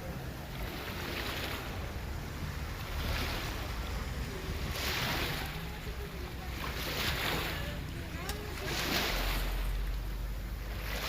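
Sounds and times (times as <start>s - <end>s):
sea water surging: 0.0s - 11.0s
steady low rumble: 0.0s - 11.0s
wind on microphone: 0.0s - 11.0s.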